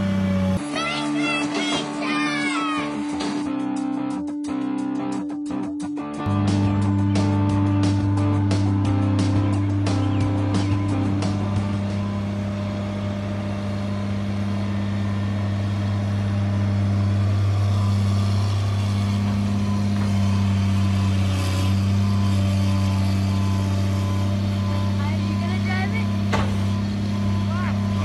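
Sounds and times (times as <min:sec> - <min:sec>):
excavator diesel engine droning: 0:00.0 - 0:03.2, 0:06.3 - 0:28.0.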